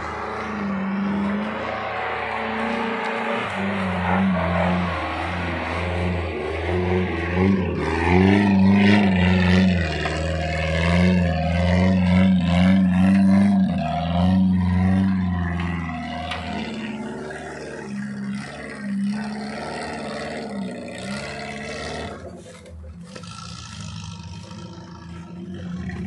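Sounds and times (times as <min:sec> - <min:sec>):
off-road vehicle engine under load: 0:00.0 - 0:26.0.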